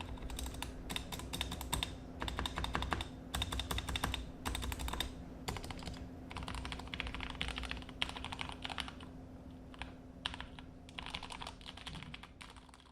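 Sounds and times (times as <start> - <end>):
keyboard typing clicks: 0.0 - 9.1, 9.7 - 12.9.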